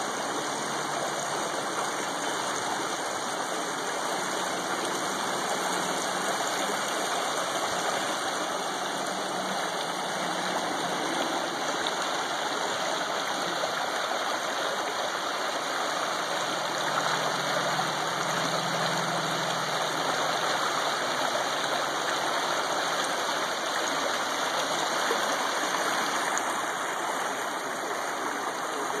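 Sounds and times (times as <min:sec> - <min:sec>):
creek water running over stones: 0:00.0 - 0:29.0.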